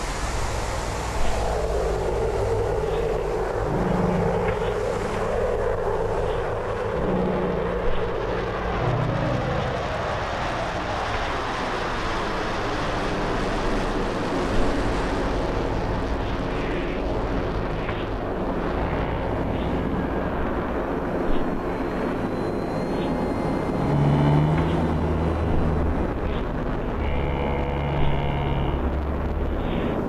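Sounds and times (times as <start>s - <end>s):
fighter jets roaring overhead: 0.0s - 30.0s.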